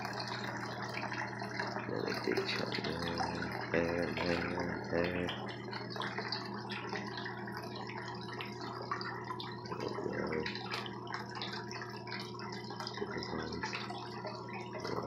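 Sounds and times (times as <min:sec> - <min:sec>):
pump humming: 0:00.0 - 0:15.0
water trickling and splashing: 0:00.0 - 0:15.0.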